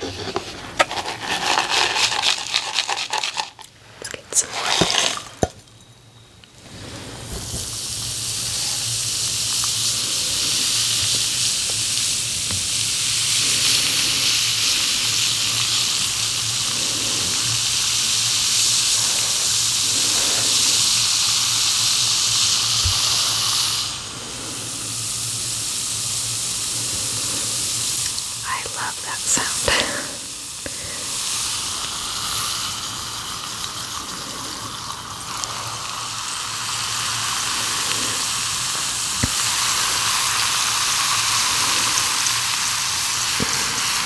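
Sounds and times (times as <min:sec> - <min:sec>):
bath bomb fizzing in water: 0:00.1 - 0:05.7, 0:06.6 - 0:44.0.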